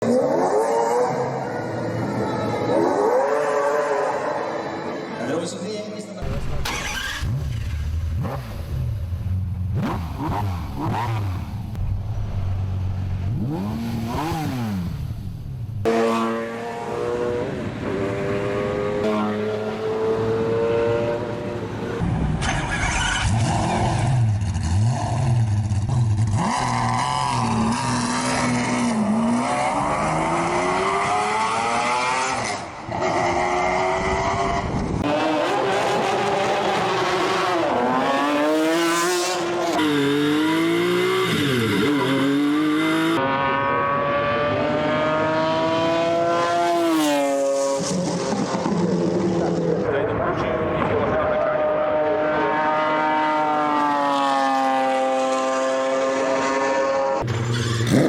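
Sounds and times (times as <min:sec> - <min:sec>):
car engine revving and accelerating: 0:06.2 - 0:58.0.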